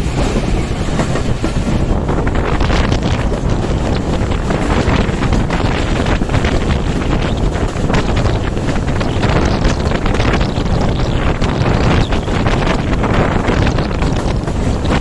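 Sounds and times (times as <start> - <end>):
express train rushing past: 0.0 - 15.0
wind buffeting microphone: 0.0 - 15.0.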